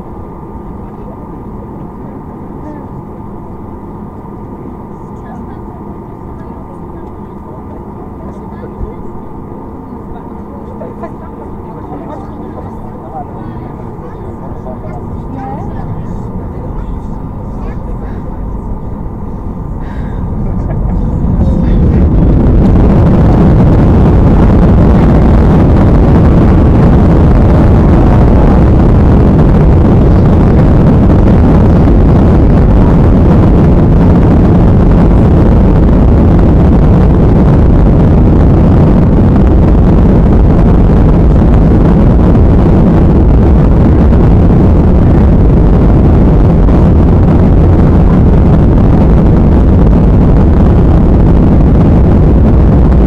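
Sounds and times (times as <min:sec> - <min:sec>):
jet engines rumbling in cabin: 0:00.0 - 0:53.0.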